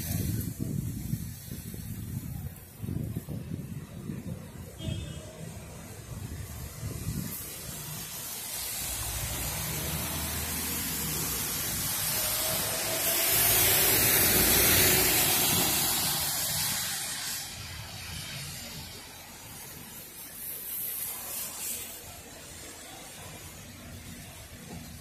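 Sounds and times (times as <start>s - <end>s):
tyres hissing on wet road: 0.0s - 25.0s.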